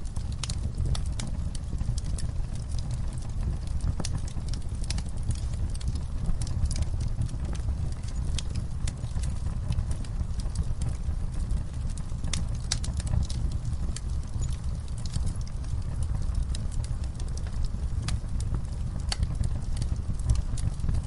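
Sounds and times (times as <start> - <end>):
low rumble of burning flames: 0.0 - 21.0
wood fire crackling: 0.0 - 21.0.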